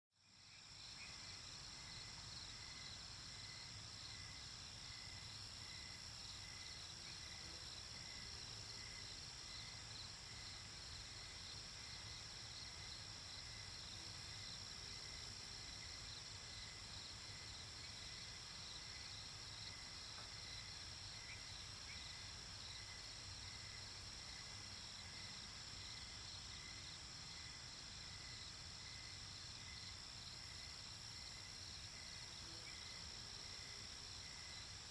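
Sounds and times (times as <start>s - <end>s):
crickets and insects singing: 0.2s - 34.9s.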